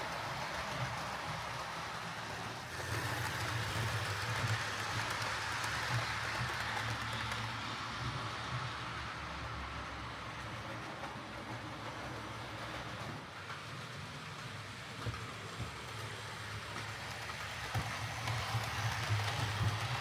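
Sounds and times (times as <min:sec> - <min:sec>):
model train whirring on track: 0:00.0 - 0:20.0.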